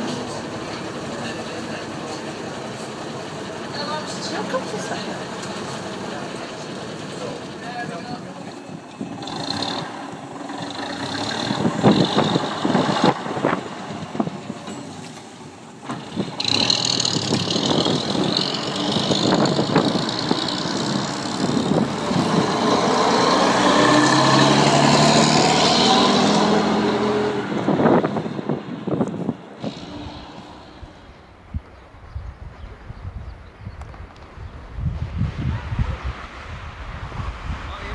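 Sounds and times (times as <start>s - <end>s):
diesel bus engine accelerating: 0.0s - 37.9s.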